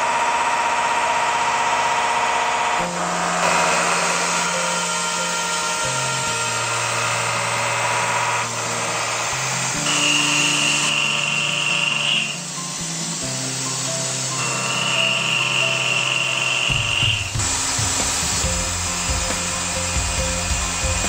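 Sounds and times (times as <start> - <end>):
milling cutter cutting steel: 0.0 - 21.0
background music: 2.8 - 21.0.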